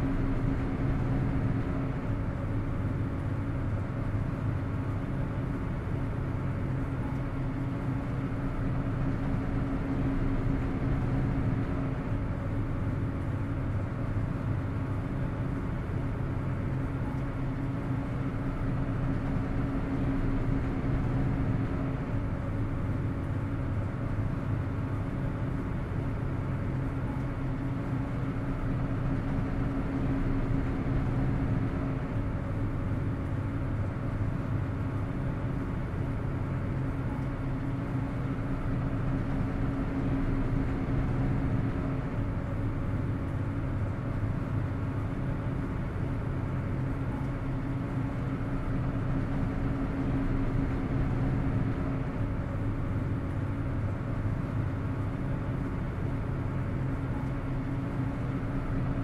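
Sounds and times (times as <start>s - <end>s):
ferry engines droning: 0.0s - 59.0s.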